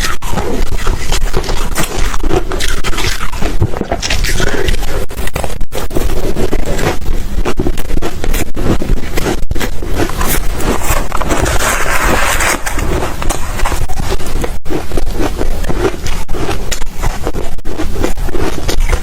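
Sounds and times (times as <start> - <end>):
ice being chewed: 0.0 - 19.0.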